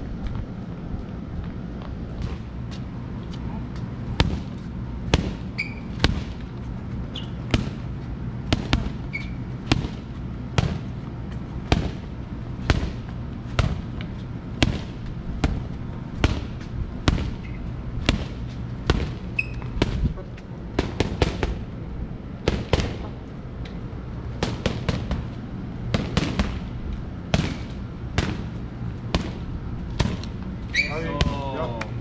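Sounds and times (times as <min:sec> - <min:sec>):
boxing gloves slapping mitts: 0:02.2 - 0:02.8, 0:04.1 - 0:21.6, 0:22.4 - 0:23.8, 0:24.4 - 0:30.5.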